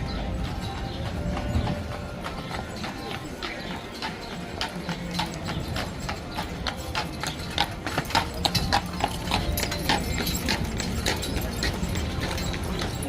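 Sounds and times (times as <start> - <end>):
horse hooves on hard street: 0.0 - 13.0.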